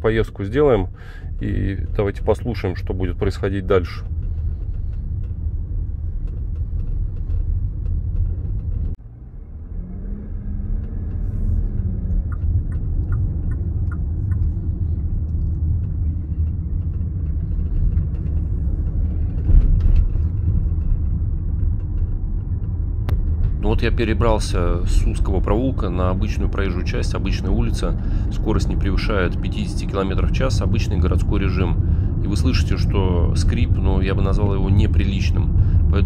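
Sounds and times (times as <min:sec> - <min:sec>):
low road rumble: 0:00.0 - 0:36.0.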